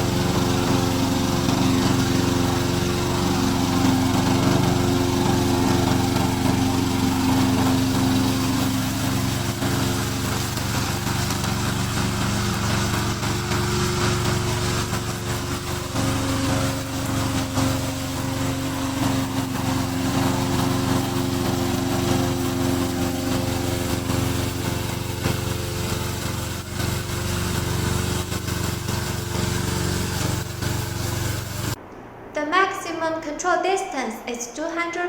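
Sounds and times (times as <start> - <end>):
lawn mower engine running: 0.0 - 31.8.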